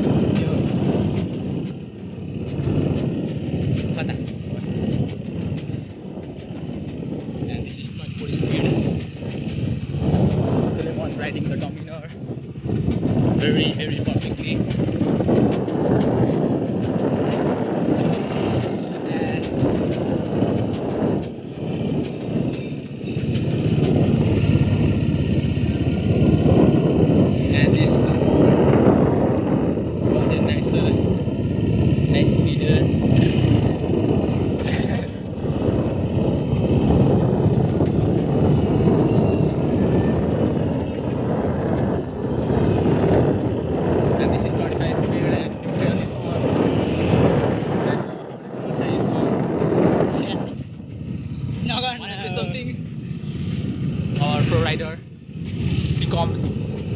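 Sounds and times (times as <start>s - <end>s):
motorcycle engine running: 0.0s - 56.9s
wind rumble on microphone: 0.0s - 56.9s.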